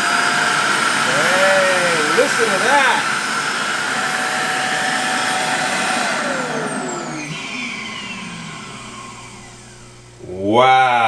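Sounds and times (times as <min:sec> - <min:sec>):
robot vacuum motor whining: 0:00.0 - 0:11.0.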